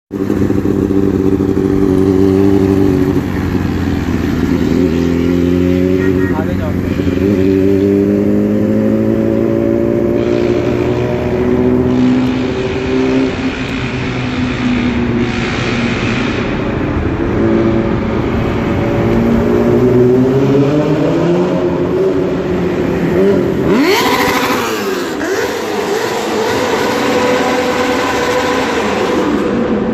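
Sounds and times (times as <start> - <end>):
motorcycle engine revving: 0.1 - 29.9.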